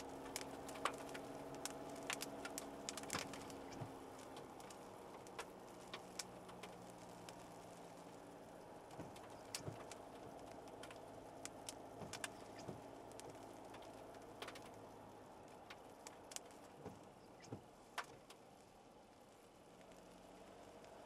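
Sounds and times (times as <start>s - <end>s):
car engine and road hum: 0.0s - 21.0s
raindrops ticking on car: 0.0s - 21.0s.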